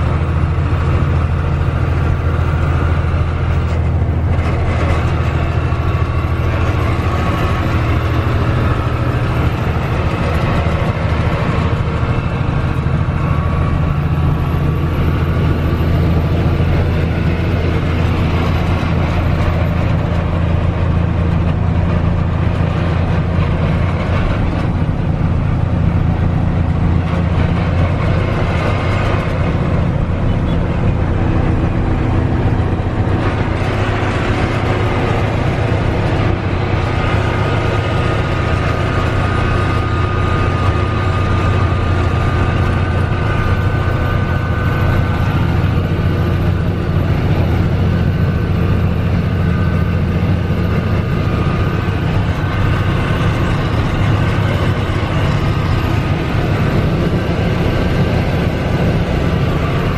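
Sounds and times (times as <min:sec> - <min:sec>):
road noise: 0:00.0 - 0:59.9
truck diesel engine droning: 0:00.0 - 0:59.9
wind noise: 0:00.0 - 0:59.9.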